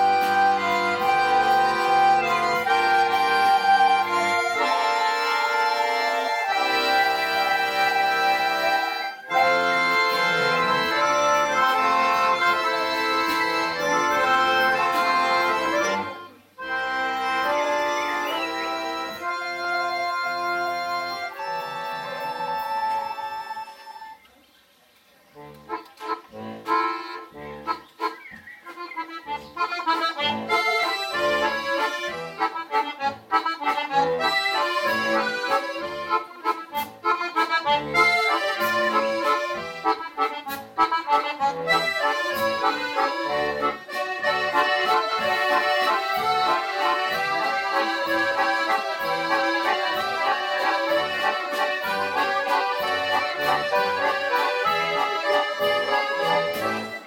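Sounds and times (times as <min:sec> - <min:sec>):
accordion orchestra playing: 0:00.0 - 0:24.2, 0:25.4 - 0:57.0.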